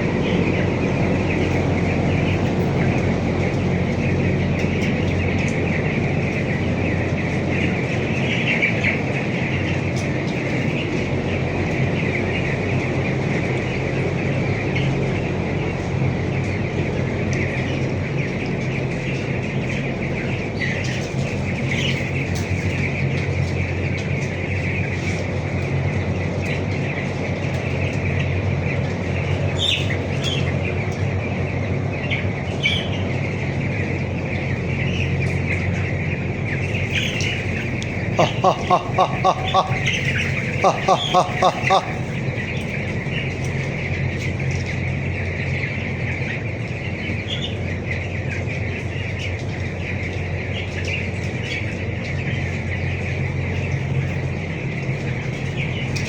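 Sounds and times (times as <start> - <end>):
chicks peeping: 0.0 - 56.0
ventilation fan hum: 0.0 - 56.0.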